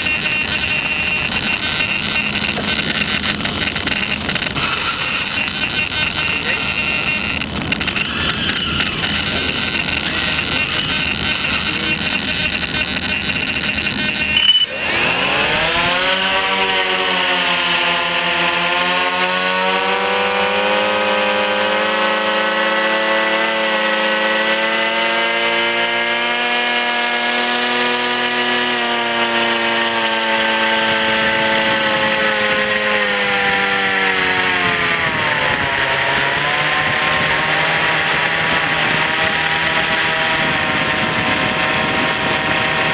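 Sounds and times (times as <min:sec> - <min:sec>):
propeller motor humming: 0:00.0 - 0:42.9.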